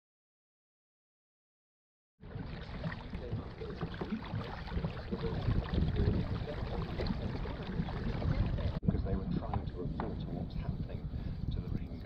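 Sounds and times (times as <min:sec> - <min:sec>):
water lapping against kayak hull: 0:02.2 - 0:12.0
wind buffeting microphone: 0:02.2 - 0:12.0.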